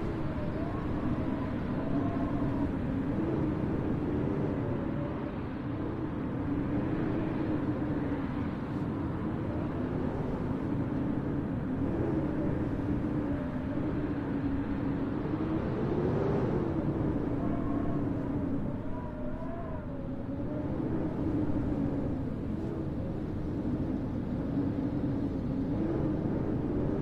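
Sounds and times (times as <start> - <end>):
blizzard wind whistling: 0.0 - 27.0.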